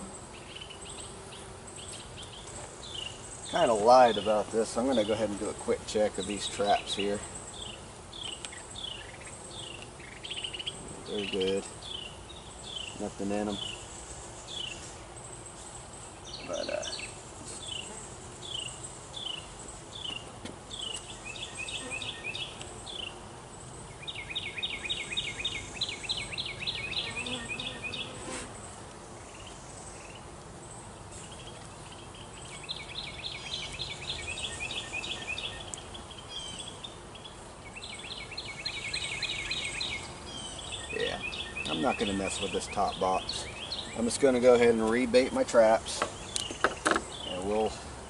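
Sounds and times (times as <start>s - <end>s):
honeybees humming: 0.0s - 48.0s.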